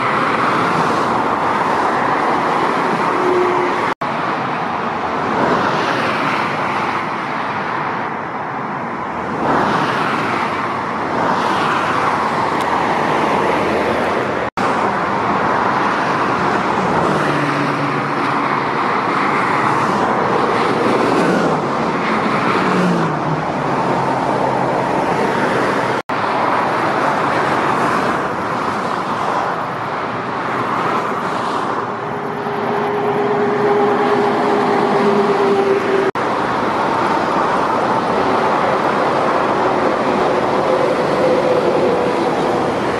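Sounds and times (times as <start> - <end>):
lorry engines droning: 0.0 - 6.6, 7.6 - 42.9
vehicles passing at speed: 0.0 - 42.9.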